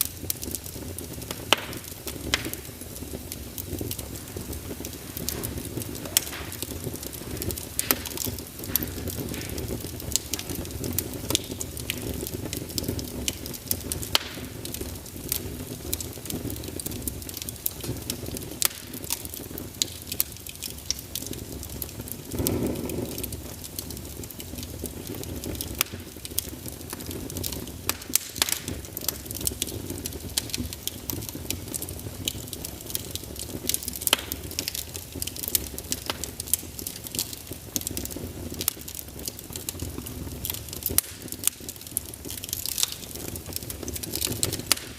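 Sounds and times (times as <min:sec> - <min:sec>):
firewood crackling and popping: 0:00.0 - 0:44.9
low rumble of flames: 0:00.0 - 0:44.9.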